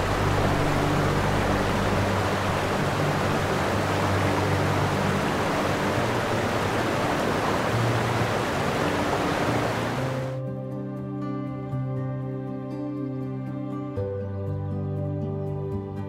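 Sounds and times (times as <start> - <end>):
soft music of low held notes: 0.0 - 16.0.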